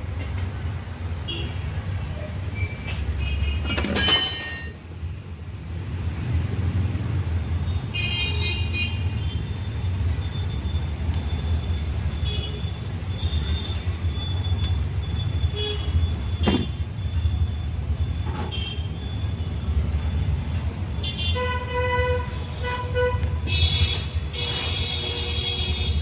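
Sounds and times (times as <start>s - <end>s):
low rumble of road traffic: 0.0s - 26.0s.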